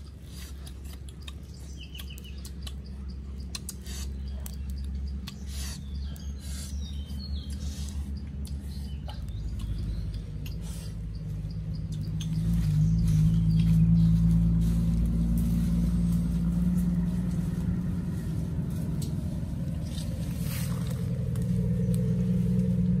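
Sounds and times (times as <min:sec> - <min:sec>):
low droning rumble: 0:00.0 - 0:23.0.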